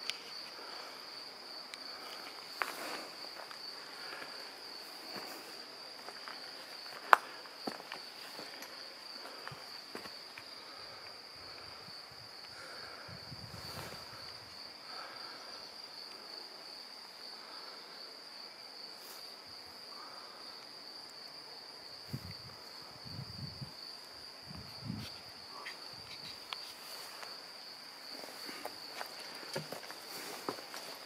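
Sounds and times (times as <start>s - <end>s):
insect high-pitched trill: 0.0s - 31.0s.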